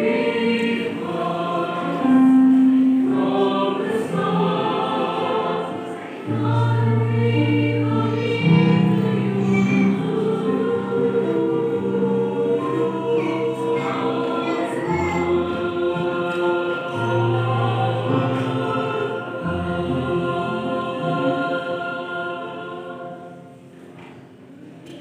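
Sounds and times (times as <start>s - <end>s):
church choir singing a hymn: 0.0s - 25.0s.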